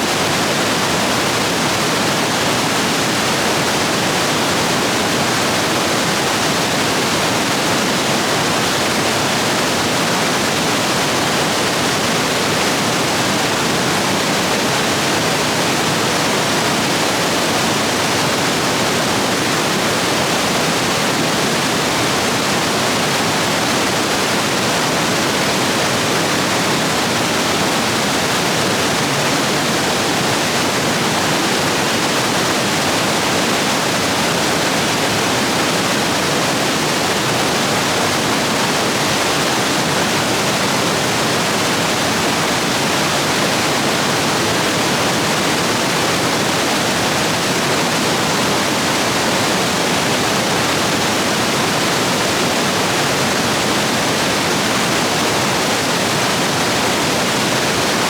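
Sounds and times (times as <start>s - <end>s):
stream rapids roaring: 0.0s - 58.0s.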